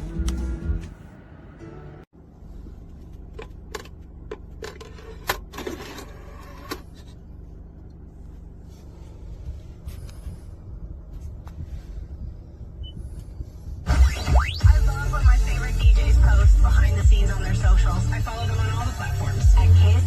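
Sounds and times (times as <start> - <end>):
low rumble inside car cabin: 0.0 - 20.0.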